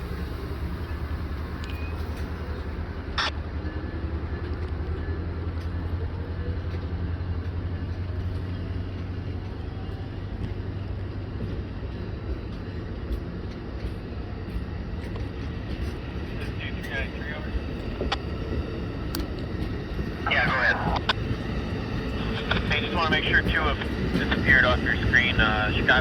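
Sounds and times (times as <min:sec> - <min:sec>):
train rumbling by: 0:00.0 - 0:26.0.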